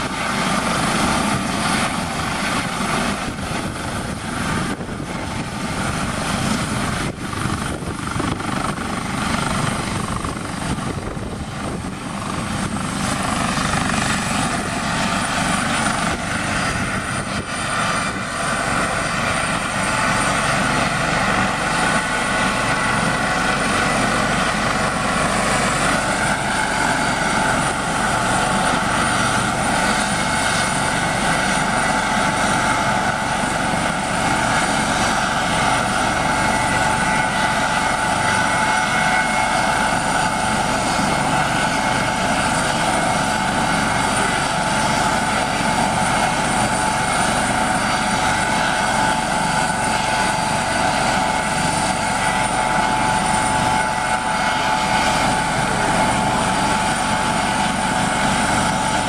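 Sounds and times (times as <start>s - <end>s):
helicopter hovering: 0.0s - 59.0s.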